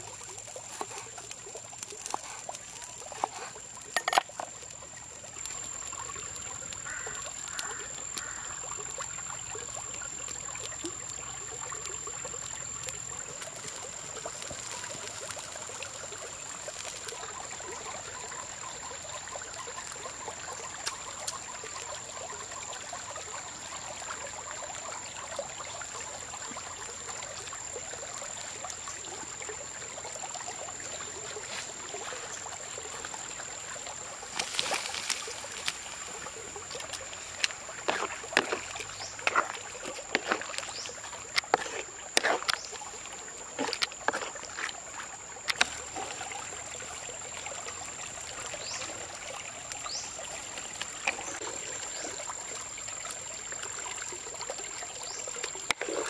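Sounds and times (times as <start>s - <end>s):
water boiling hard: 0.0s - 56.0s.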